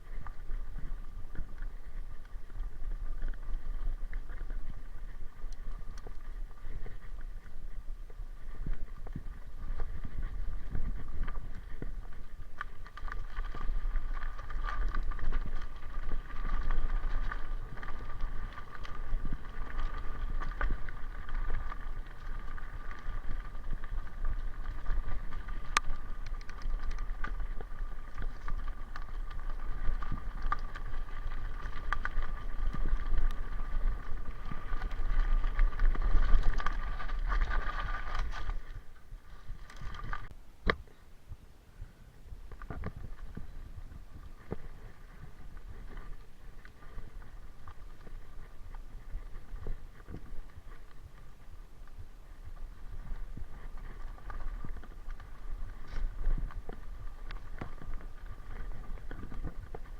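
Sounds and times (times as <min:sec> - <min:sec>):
bike clicks and rattles: 0:00.0 - 0:40.9, 0:42.5 - 0:59.9
bike tyres rumbling on dirt: 0:00.0 - 0:59.9
wind on microphone: 0:00.0 - 0:59.9.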